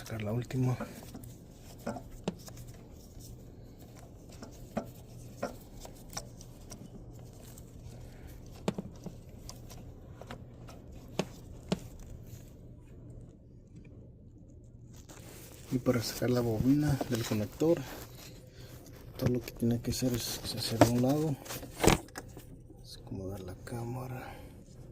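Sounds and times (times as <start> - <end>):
hands handling engine parts: 0.0 - 14.0, 14.6 - 22.7
steady low hum: 0.0 - 24.9.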